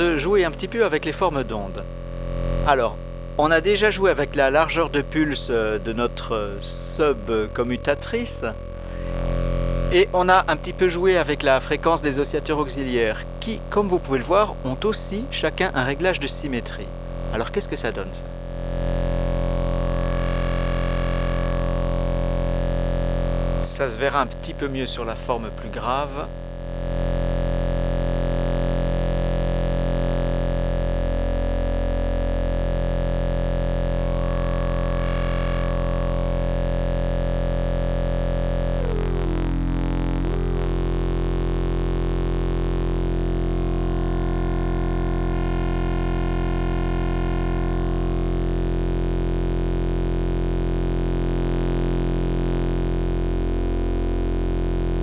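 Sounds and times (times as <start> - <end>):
buzzy synthesizer drone: 0.0 - 55.0.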